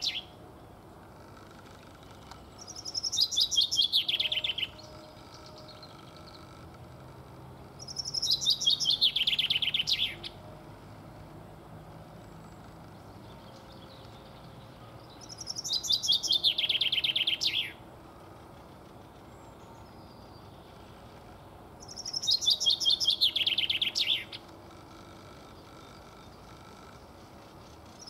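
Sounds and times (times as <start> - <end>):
chaffinch singing: 0.0 - 0.5, 1.2 - 6.9, 7.5 - 28.0.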